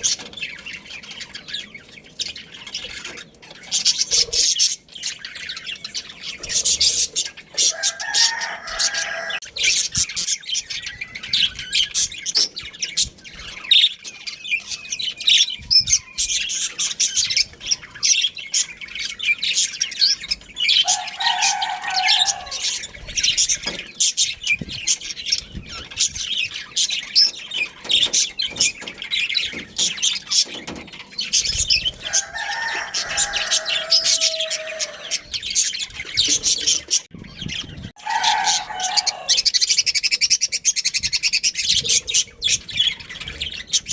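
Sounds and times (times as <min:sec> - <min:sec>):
budgies chirping and chattering: 0:00.0 - 0:43.9.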